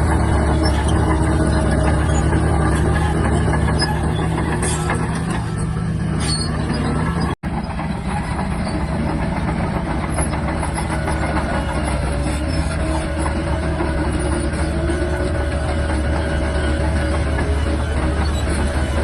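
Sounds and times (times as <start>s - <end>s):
bulldozer diesel engine running: 0.0s - 19.0s
steel tracks clattering: 0.0s - 19.0s.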